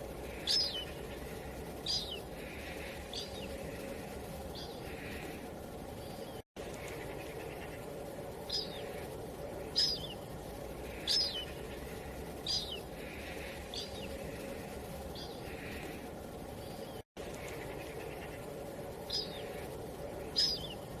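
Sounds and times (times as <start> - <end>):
steady wind-like hiss: 0.0 - 21.0.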